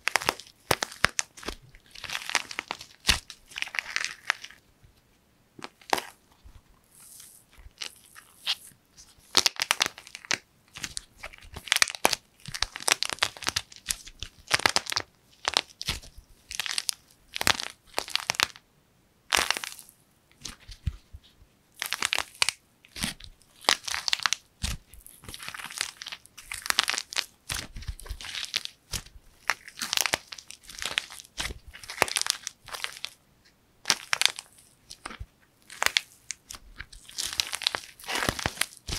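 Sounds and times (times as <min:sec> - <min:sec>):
dried clay cracking by hand: 0:00.0 - 0:04.6, 0:07.0 - 0:18.6, 0:19.3 - 0:21.1, 0:21.8 - 0:33.2, 0:33.8 - 0:38.9.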